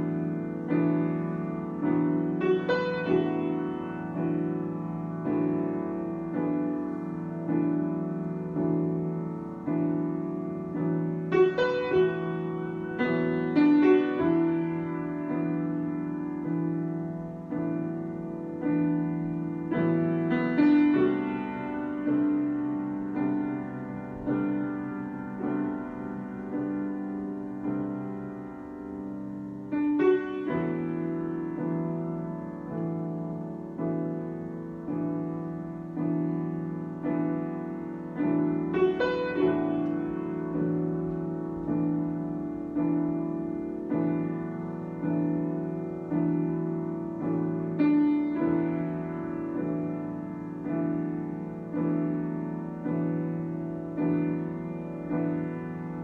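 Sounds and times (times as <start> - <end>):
solo piano chords: 0.0 - 56.0.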